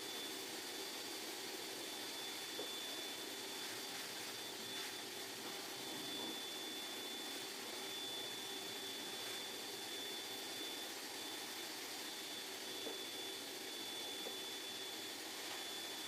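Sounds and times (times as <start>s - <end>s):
thin high whine: 0.0s - 16.0s
whirring hiss: 0.0s - 16.0s.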